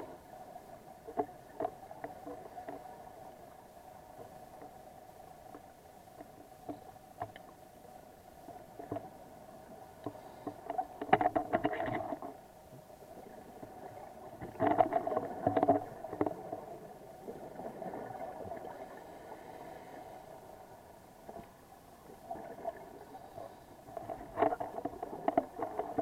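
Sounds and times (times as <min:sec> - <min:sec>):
steady underwater hum: 0:00.0 - 0:26.0.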